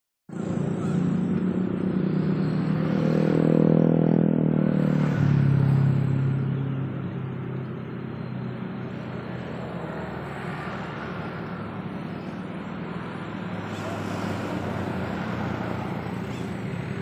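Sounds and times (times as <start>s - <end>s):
vehicle engine passing by: 0.3s - 7.1s, 9.0s - 17.0s.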